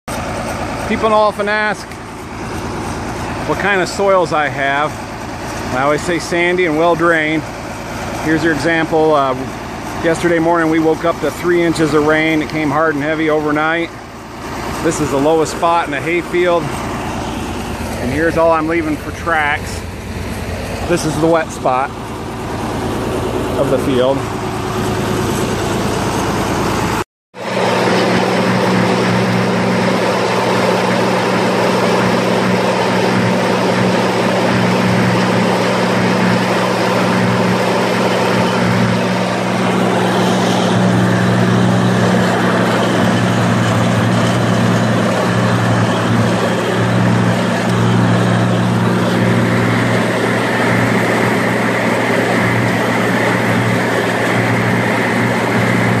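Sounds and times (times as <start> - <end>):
high steady whine: 0.1 - 56.0
tractor engine running: 0.1 - 56.0.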